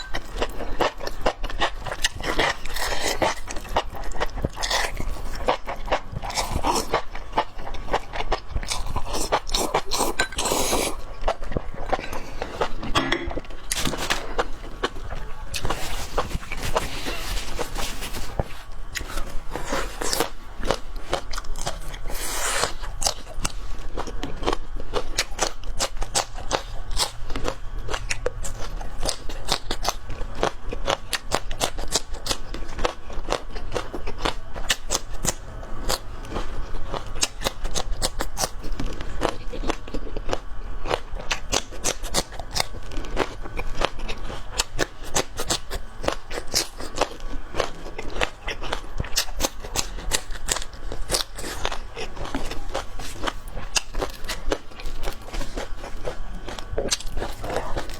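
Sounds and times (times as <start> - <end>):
chewing crunchy mushrooms: 0.0 - 57.9.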